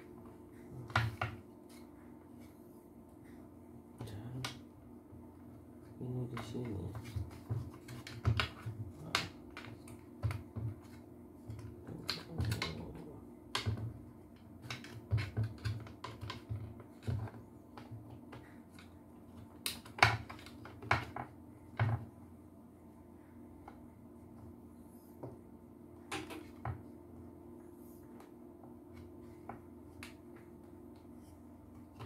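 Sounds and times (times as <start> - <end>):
faint low hum: 0.0 - 32.0.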